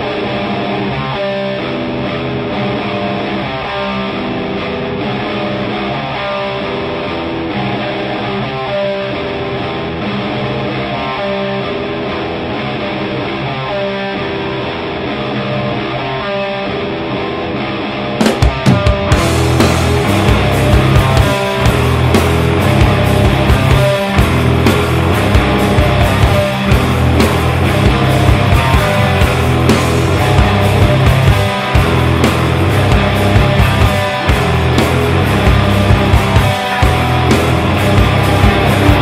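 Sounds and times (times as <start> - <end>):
electric guitar riff: 0.0 - 39.0.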